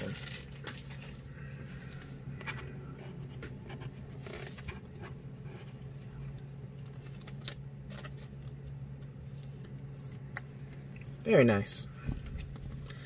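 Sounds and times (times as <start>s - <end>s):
plastic card sleeve crinkling: 0.0s - 10.8s
steady low hum: 0.0s - 13.0s.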